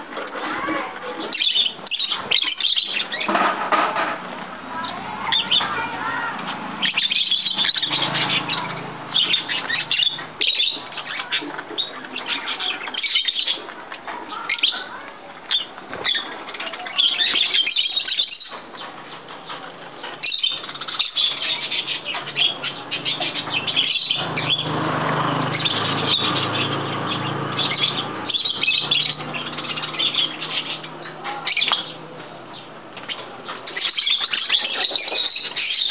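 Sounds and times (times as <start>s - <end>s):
birds chirping and calling: 0.0s - 35.9s.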